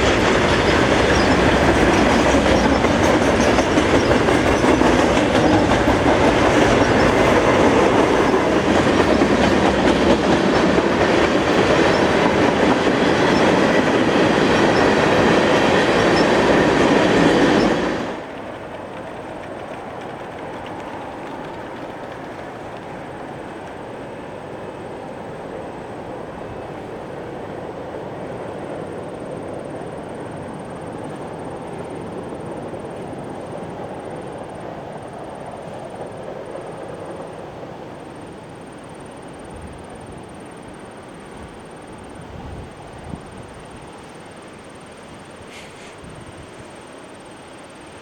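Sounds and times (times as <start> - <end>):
train cars rolling on rails: 0.0 - 48.0.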